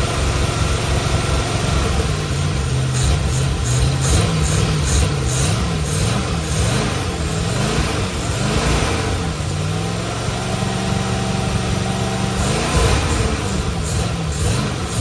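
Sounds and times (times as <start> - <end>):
engine revving and idling: 0.0 - 15.0.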